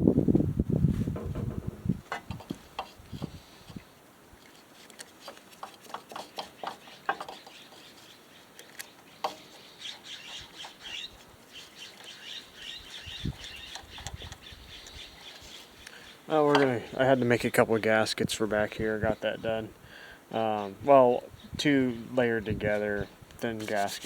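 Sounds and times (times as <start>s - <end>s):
small birds chirping: 2.2s - 24.0s.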